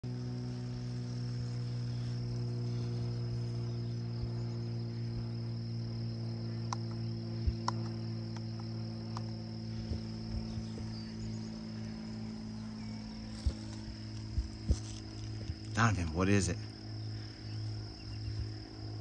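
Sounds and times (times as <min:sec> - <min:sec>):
crickets trilling: 0:00.0 - 0:19.0
low hum: 0:00.0 - 0:19.0.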